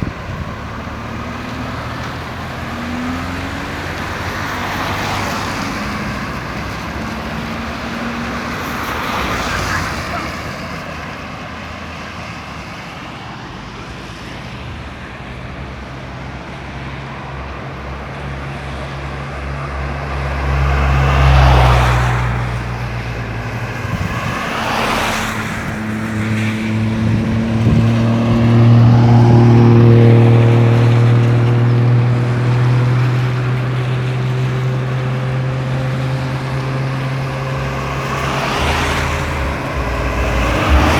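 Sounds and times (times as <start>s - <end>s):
heavy vehicle engine humming: 0.0s - 40.9s
vehicles passing: 0.0s - 40.9s.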